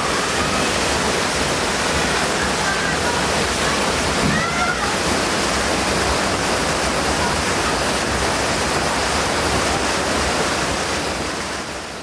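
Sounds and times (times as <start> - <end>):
water rushing and churning: 0.0 - 12.0.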